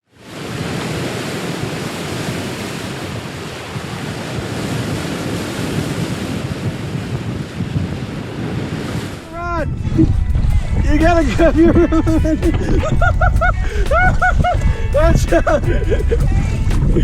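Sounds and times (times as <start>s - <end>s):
ocean water sloshing: 0.0s - 14.8s
wind buffeting microphone: 0.2s - 17.0s.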